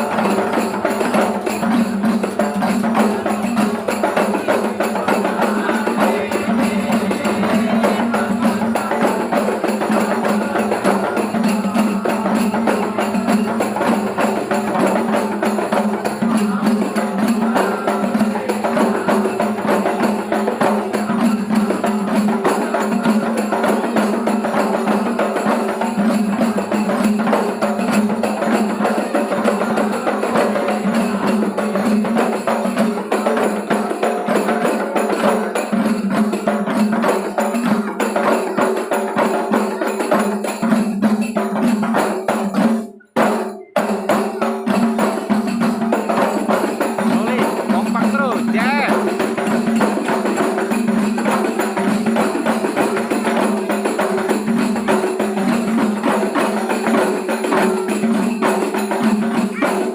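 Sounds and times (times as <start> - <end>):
frame drums beating a rhythm: 0.0 - 59.9.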